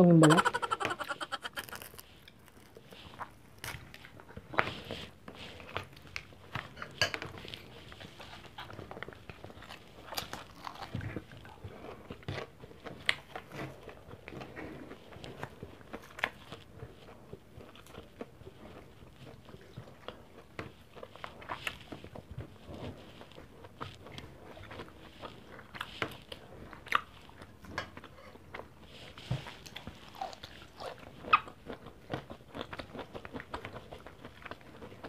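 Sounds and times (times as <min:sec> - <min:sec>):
biting and chewing: 0:00.3 - 0:35.0.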